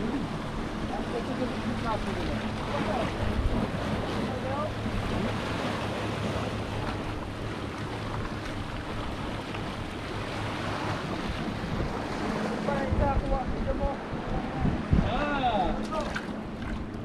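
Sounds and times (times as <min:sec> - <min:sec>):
waves splashing against rocks: 0:00.0 - 0:17.0
wind on microphone: 0:00.0 - 0:17.0.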